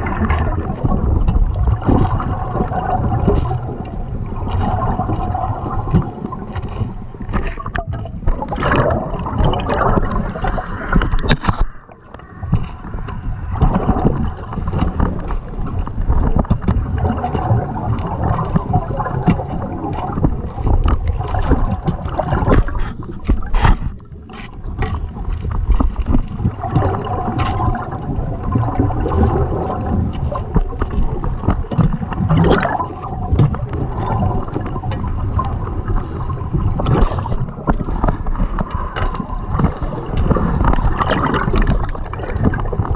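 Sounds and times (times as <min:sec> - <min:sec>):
exhaled air bubbling underwater: 0:00.0 - 0:42.9.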